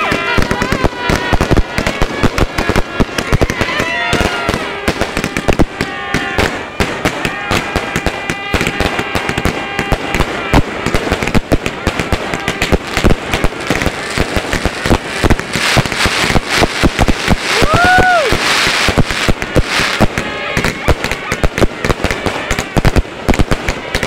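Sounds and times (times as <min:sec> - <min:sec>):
fireworks bangs and crackles: 0:00.0 - 0:24.0
fireworks hissing: 0:00.0 - 0:24.0.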